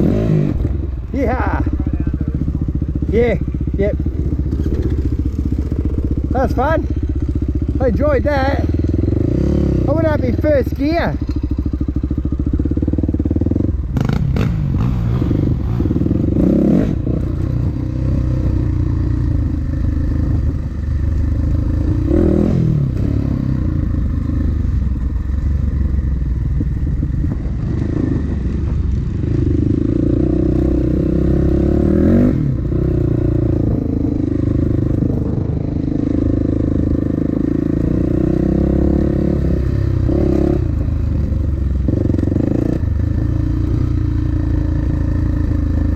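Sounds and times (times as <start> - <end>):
dirt bike engine revving: 0.0 - 25.9, 27.4 - 45.9.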